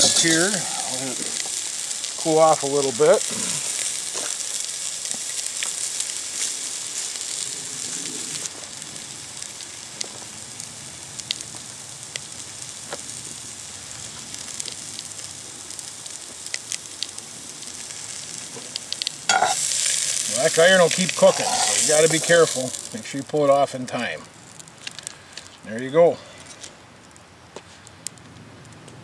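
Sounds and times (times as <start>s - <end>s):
vegetables sizzling in a pot: 0.0s - 26.2s.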